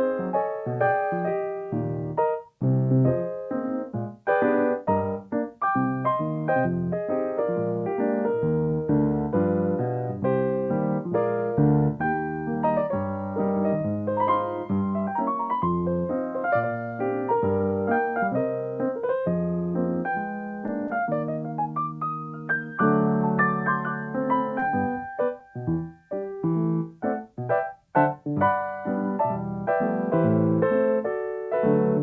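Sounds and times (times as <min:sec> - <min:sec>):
solo piano playing: 0:00.0 - 0:32.0.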